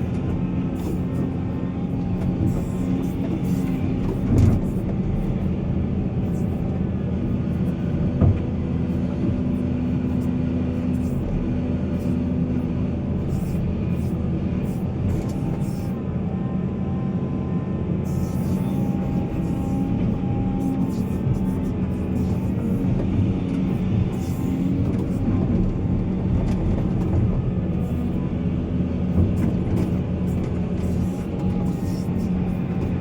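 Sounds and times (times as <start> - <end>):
diesel machinery engine drone: 0.0 - 33.0.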